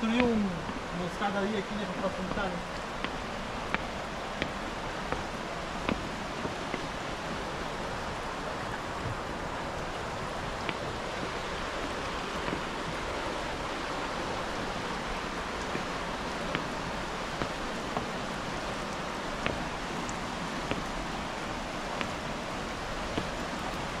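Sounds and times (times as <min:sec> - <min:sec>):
footsteps on wooden stairs: 0:00.0 - 0:24.0
river rushing: 0:00.0 - 0:24.0.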